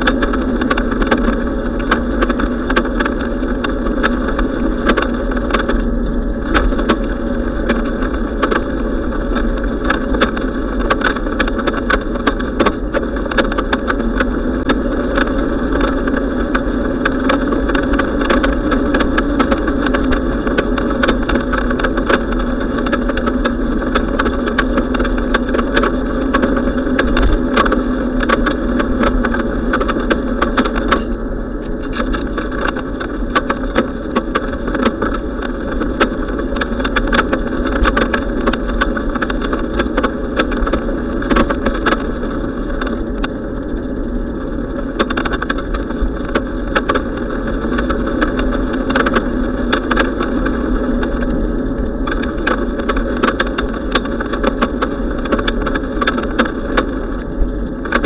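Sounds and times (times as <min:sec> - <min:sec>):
bicycle clicks and rattles: 0:00.0 - 0:58.0
wind and road noise: 0:00.0 - 0:58.0.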